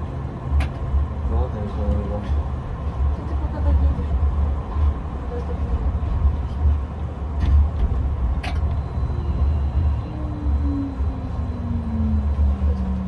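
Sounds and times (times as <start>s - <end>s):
tram cabin low rumble: 0.0s - 13.0s.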